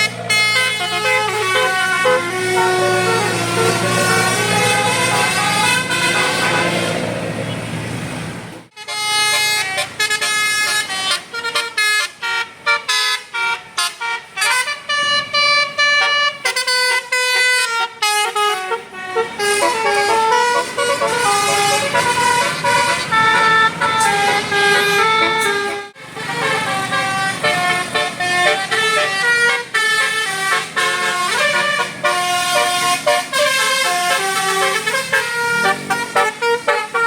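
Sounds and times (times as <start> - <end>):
bus melody horn: 0.0 - 7.1, 8.7 - 37.0
engine hum: 0.0 - 37.0.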